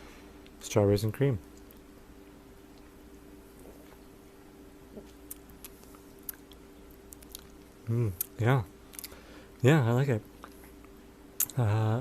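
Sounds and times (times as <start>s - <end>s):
faint low electrical hum: 0.0s - 12.0s.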